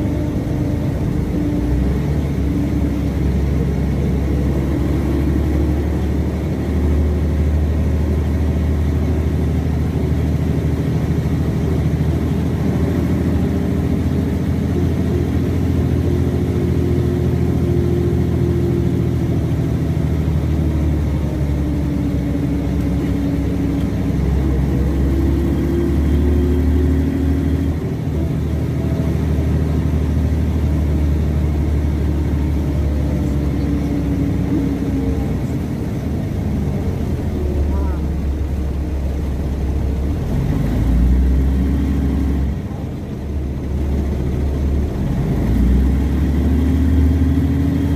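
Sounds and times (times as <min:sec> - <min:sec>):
bus diesel engine drone: 0:00.0 - 0:47.9.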